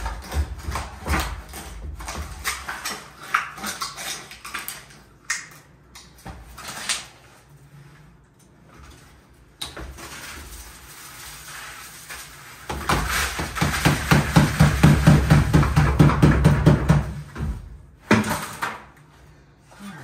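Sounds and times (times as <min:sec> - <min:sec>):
mix stirred in plastic bucket: 0:00.0 - 0:16.2.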